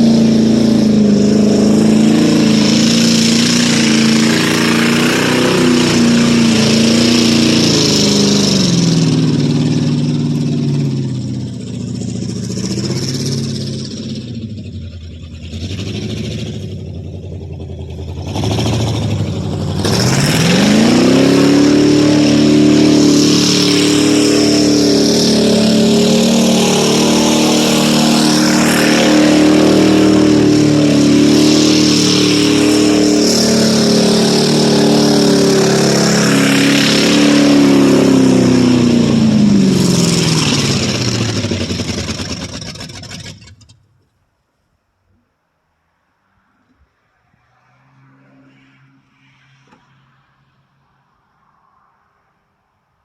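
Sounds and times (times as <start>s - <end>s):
misfiring engine revving: 0.0s - 43.9s.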